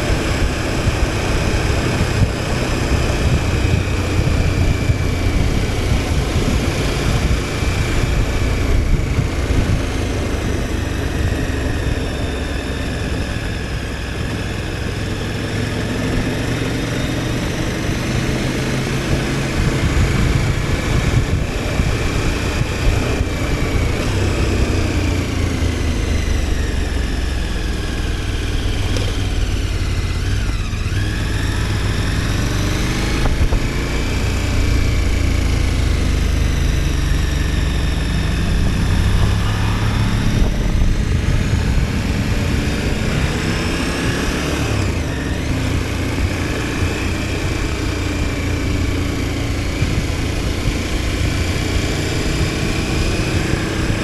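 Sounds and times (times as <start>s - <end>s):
low wind rush: 0.0s - 54.0s
motorcycle engine revving: 0.0s - 54.0s.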